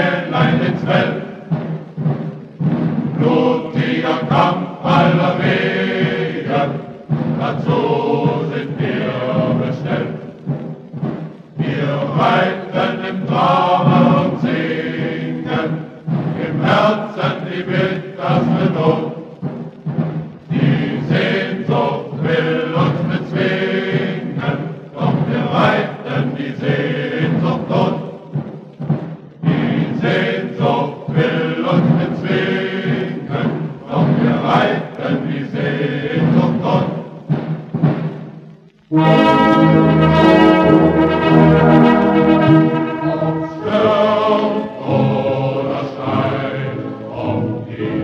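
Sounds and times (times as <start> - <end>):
choir singing a folk song: 0.0 - 48.0.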